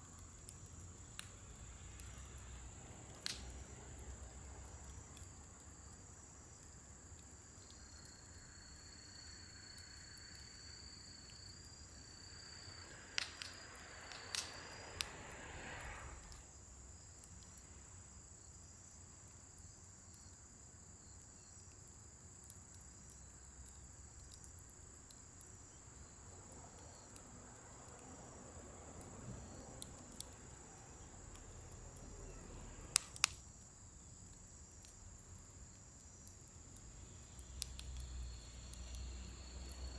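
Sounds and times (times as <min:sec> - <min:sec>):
wood fire crackling pops: 0:00.0 - 0:39.9.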